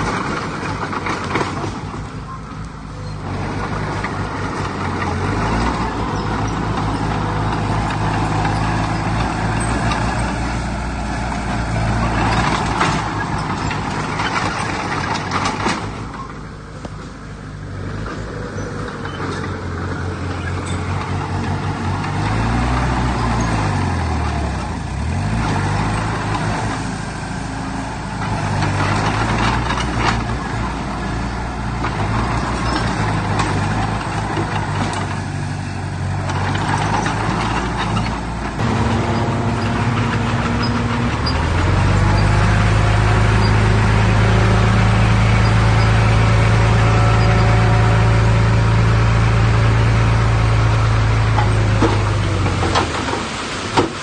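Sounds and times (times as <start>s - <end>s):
clanks and rattles: 0.0s - 17.3s, 17.9s - 49.9s, 50.6s - 54.0s
heavy diesel machinery running: 0.0s - 54.0s.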